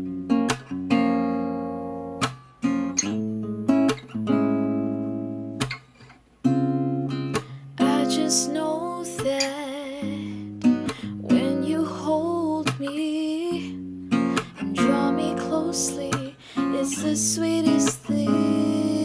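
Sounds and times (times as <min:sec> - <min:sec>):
strummed acoustic guitar chords: 0:00.0 - 0:19.0.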